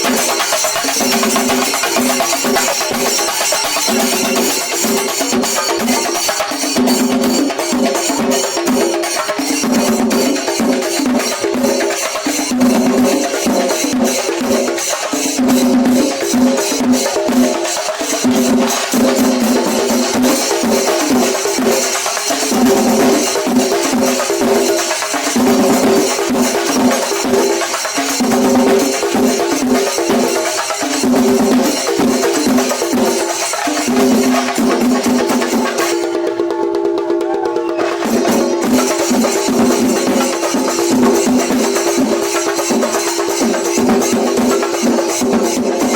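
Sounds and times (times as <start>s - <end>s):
ringing cymbals: 0.0s - 37.0s, 37.7s - 45.9s
drums playing fast rhythm: 0.0s - 45.9s.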